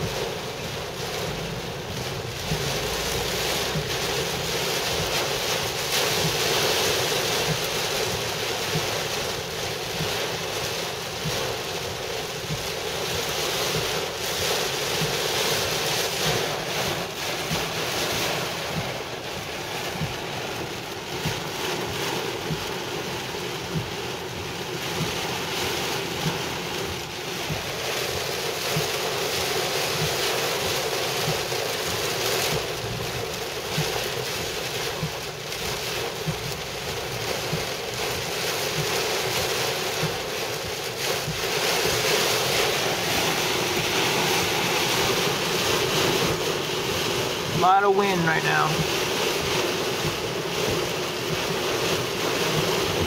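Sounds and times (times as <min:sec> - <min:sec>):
heavy rain on car roof: 0:00.0 - 0:53.0.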